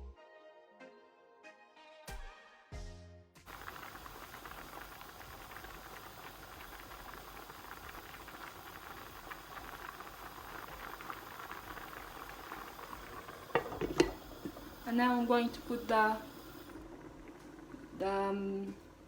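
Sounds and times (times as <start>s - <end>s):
rice boiling and bubbling: 3.5s - 19.0s.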